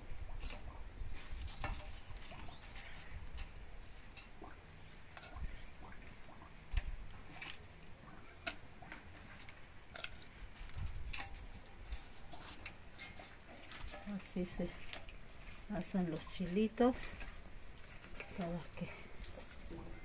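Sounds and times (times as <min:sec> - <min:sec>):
chiles crackling while toasting: 0:00.0 - 0:20.0.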